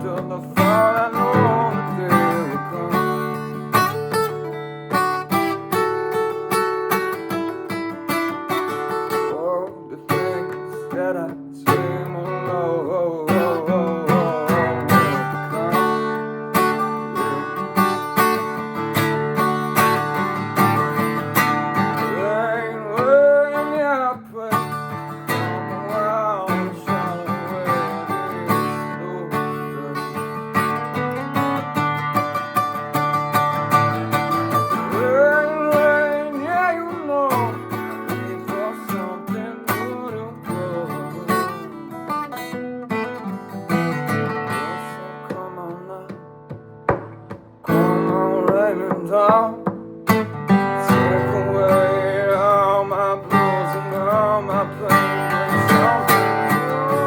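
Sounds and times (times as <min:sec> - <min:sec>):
person singing: 0:00.0 - 0:04.6, 0:08.5 - 0:18.6, 0:21.8 - 0:31.0, 0:33.8 - 0:57.0
acoustic guitar strumming: 0:00.0 - 0:57.0.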